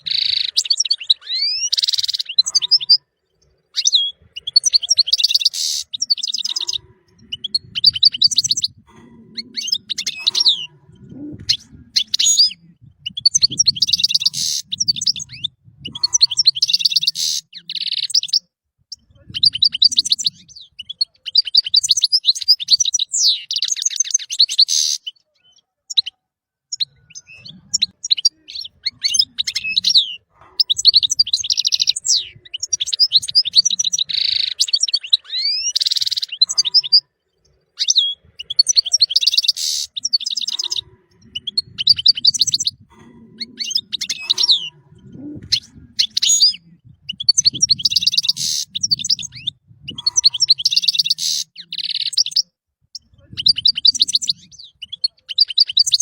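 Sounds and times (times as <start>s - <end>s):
finch twittering and trilling: 0.0s - 56.0s.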